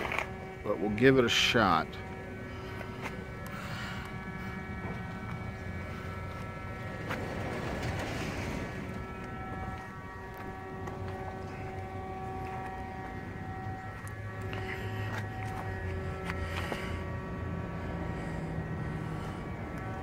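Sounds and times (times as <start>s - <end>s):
motor humming: 1.2s - 20.0s.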